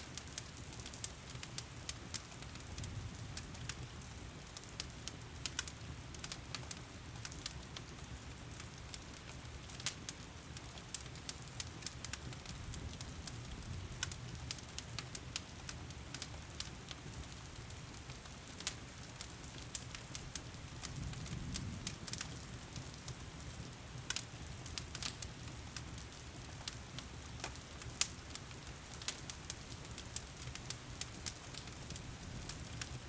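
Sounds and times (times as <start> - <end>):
low rumble of fire: 0.0 - 33.0
wood fire crackling: 0.0 - 33.0
rain falling: 0.1 - 33.0.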